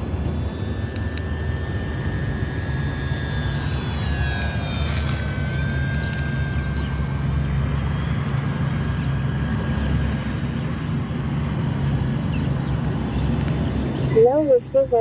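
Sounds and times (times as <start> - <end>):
propeller airplane engine: 0.0 - 15.0.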